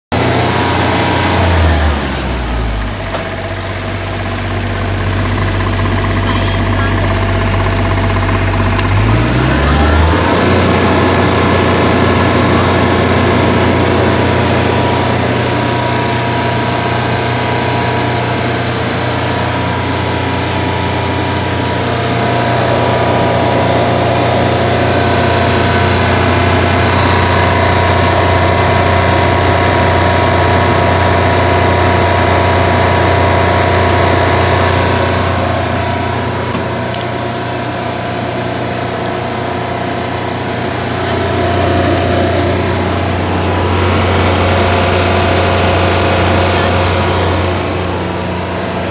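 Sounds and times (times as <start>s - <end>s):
generator engine droning: 0.1s - 48.9s.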